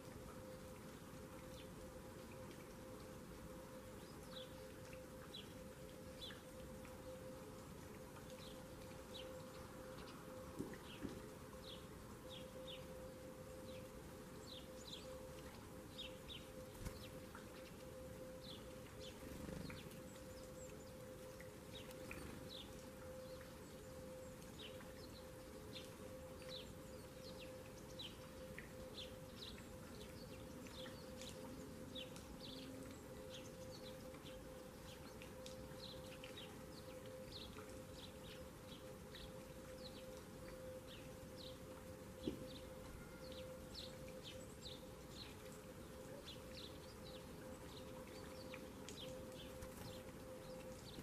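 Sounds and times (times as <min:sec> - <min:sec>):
faint steady hum: 0:00.0 - 0:51.0
songbirds chirping: 0:00.0 - 0:51.0.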